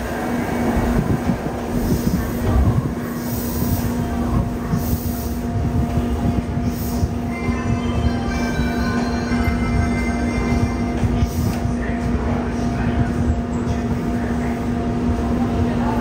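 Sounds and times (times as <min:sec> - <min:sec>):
train electrical hum: 0:00.0 - 0:16.0.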